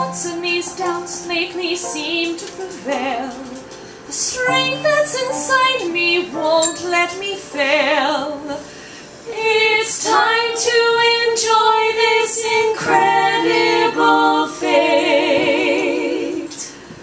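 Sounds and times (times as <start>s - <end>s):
women singing a slow song: 0.0s - 8.7s, 9.3s - 17.0s.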